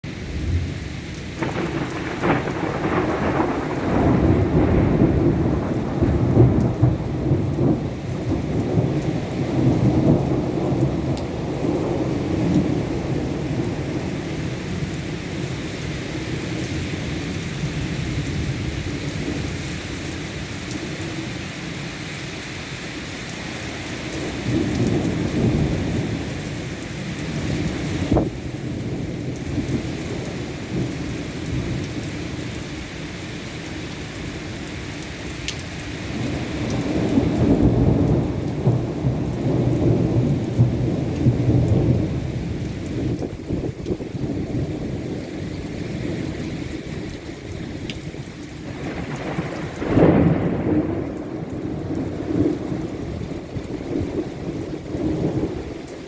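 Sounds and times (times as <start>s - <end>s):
thunder rumbling: 0.0s - 19.6s, 24.0s - 32.5s, 36.0s - 56.0s
steady rain: 0.0s - 56.0s.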